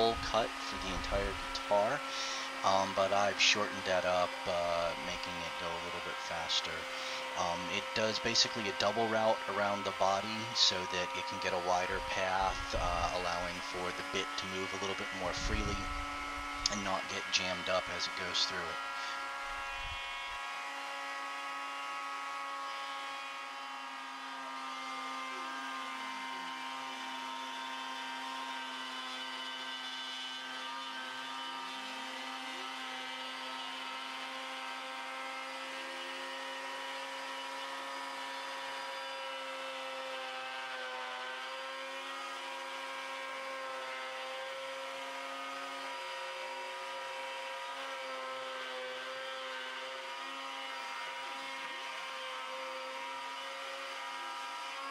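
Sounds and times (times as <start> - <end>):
wood router motor whine: 0.0 - 54.9.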